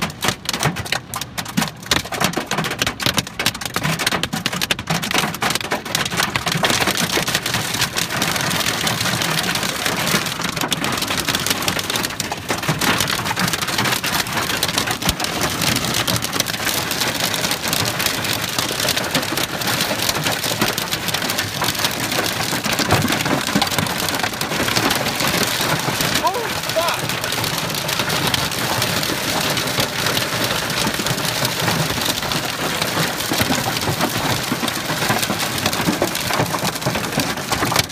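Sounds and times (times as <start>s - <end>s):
hail and rain on car roof: 0.0s - 37.9s.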